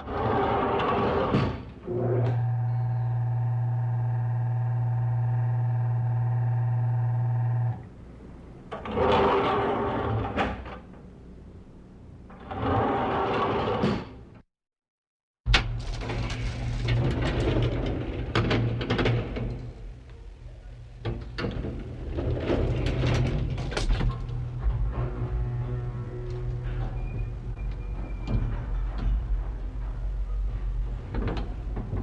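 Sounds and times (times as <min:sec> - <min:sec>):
elevator doors sliding: 0:00.0 - 0:05.8, 0:08.6 - 0:11.1, 0:12.3 - 0:14.2, 0:15.6 - 0:32.0
elevator electric hum: 0:01.9 - 0:12.3, 0:15.6 - 0:32.0.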